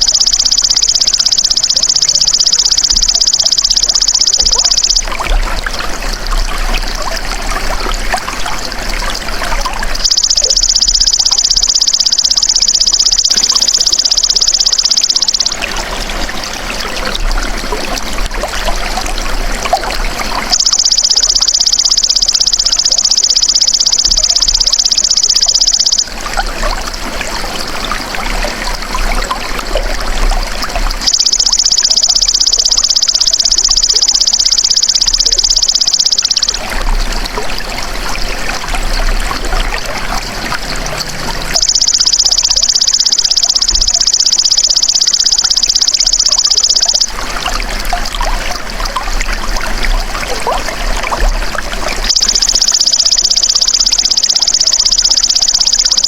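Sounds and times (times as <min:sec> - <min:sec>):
flowing water trickling: 0:00.0 - 0:56.0.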